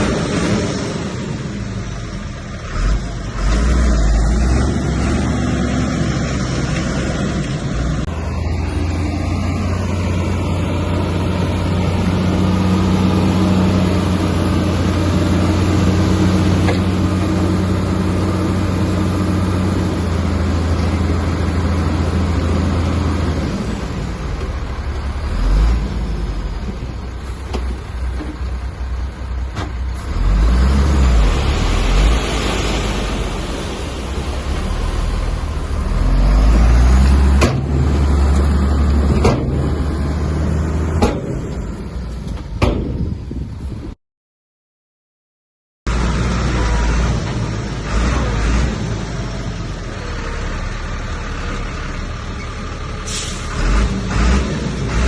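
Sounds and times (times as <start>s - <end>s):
bulldozer diesel engine under load: 0.0s - 44.0s, 45.9s - 55.0s.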